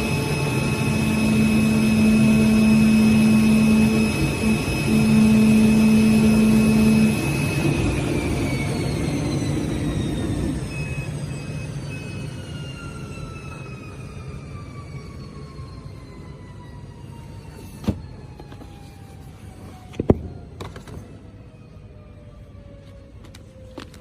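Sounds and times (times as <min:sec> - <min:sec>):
cutting machine humming and whining: 0:00.0 - 0:24.0.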